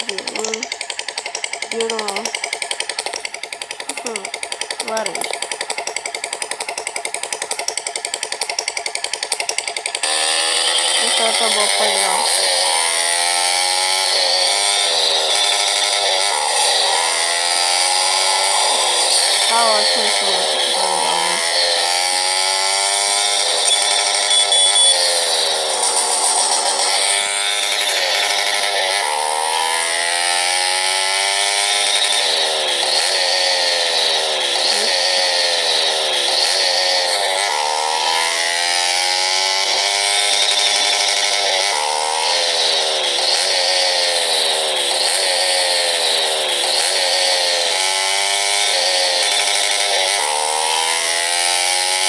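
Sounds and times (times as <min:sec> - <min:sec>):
small motorcycle engine: 0:00.0 - 0:52.0.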